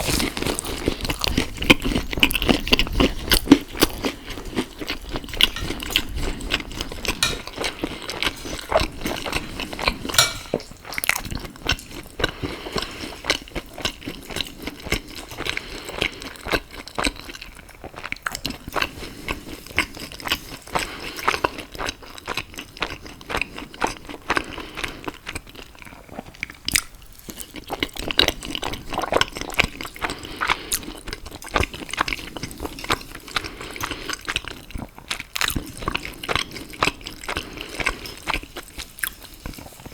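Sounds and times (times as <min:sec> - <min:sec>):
chewing with wet mouth clicks: 0:00.0 - 0:24.5, 0:25.3 - 0:39.9.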